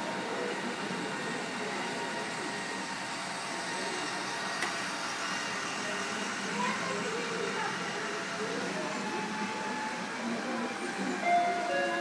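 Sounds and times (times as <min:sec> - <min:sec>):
busy hall background noise: 0:00.0 - 0:12.0.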